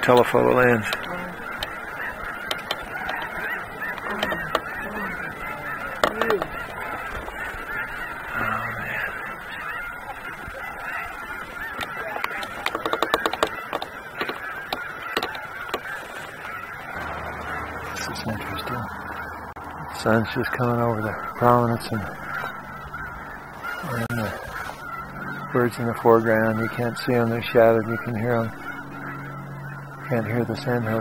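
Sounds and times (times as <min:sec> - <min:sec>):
flock of geese honking: 0:00.0 - 0:31.0
nearer goose calls: 0:00.0 - 0:31.0.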